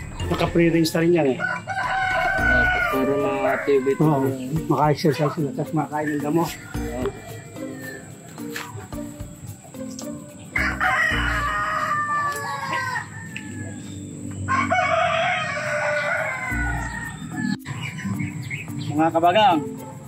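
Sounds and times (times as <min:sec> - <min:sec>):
roosters crowing: 0:00.0 - 0:09.7, 0:10.5 - 0:18.8.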